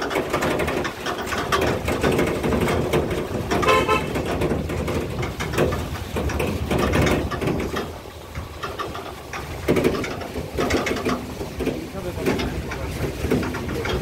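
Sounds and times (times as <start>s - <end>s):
vehicle engine rumbling: 0.0s - 14.0s
vehicle knocks and rattles: 0.0s - 14.0s.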